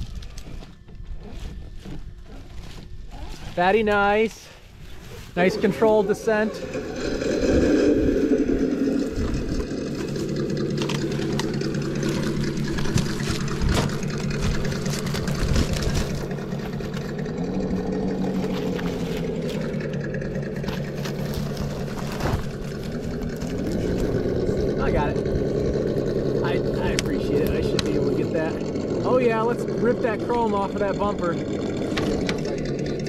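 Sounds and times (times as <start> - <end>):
simulated engine sound from speaker: 5.4 - 33.0.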